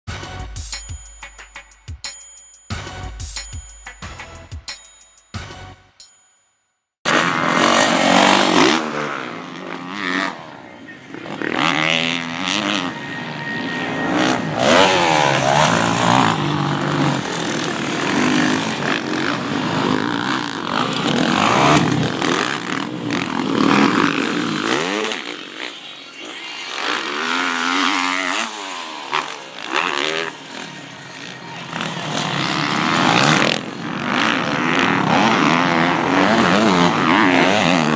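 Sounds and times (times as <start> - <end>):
dirt bike engines revving: 7.1 - 37.9.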